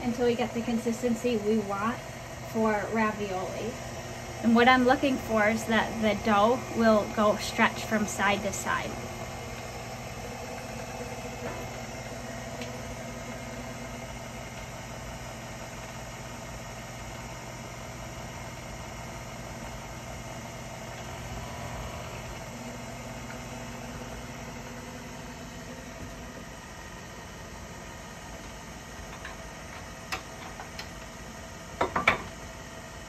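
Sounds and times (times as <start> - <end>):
stand mixer motor running: 0.0 - 33.0.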